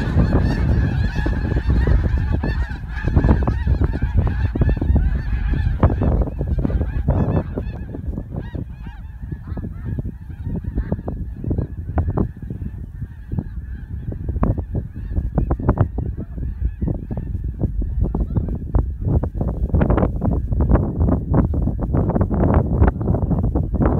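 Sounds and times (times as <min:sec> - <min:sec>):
geese honking in flight: 0:00.0 - 0:23.9
low rumble: 0:00.0 - 0:23.9.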